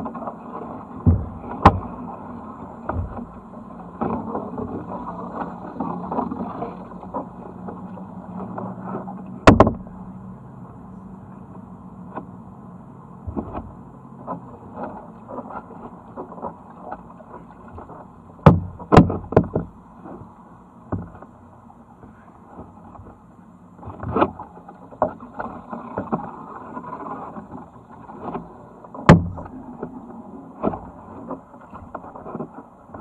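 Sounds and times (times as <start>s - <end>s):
paddle knocking against boat: 0.0s - 10.0s, 13.2s - 20.3s, 20.9s - 21.4s, 23.8s - 33.0s
paddle blades dipping in water: 0.0s - 33.0s.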